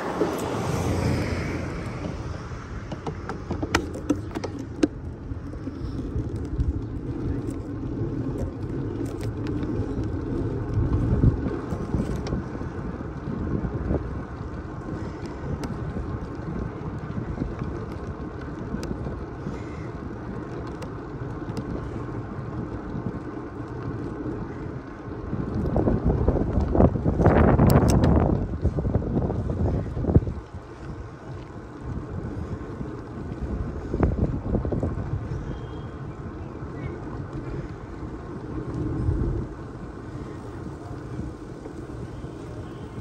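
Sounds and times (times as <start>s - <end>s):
steady low rumble: 0.0s - 43.0s
wind buffeting microphone: 0.0s - 43.0s.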